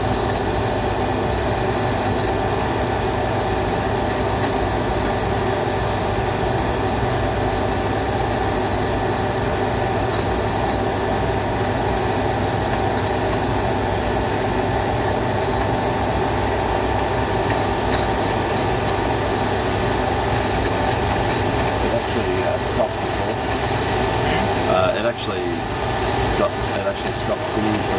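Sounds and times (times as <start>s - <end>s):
spinning machine grinding: 0.0s - 27.9s.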